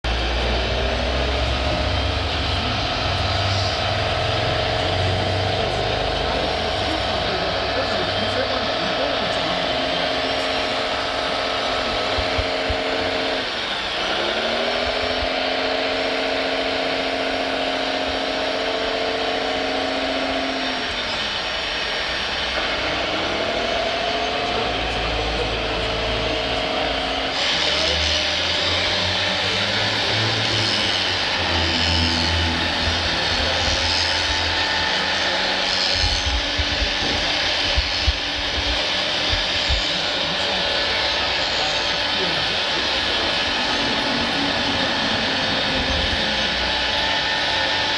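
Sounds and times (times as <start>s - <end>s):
small electric motor whining: 0.0s - 47.9s
mechanical whir and hiss: 0.1s - 47.9s.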